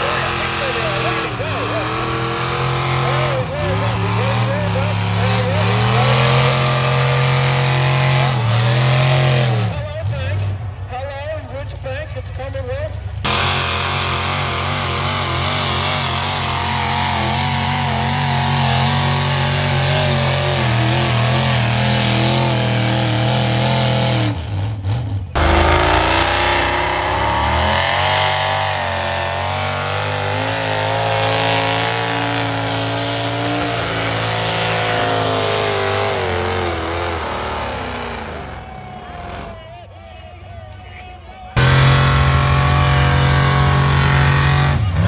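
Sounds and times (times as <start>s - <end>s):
tractor engine revving under load: 0.0s - 10.6s, 13.2s - 39.7s, 41.4s - 45.0s.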